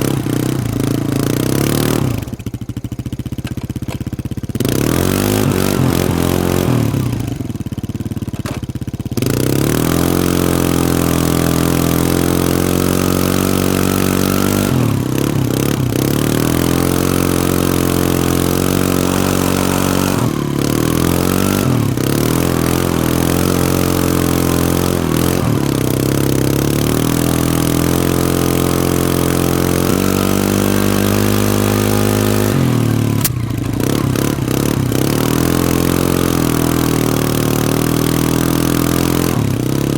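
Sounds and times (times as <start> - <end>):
small atv engine revving: 0.0 - 39.9.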